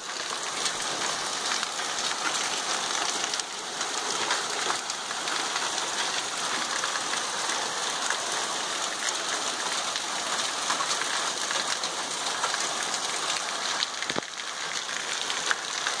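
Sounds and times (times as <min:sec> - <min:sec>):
heavy rain on water: 0:00.0 - 0:16.0.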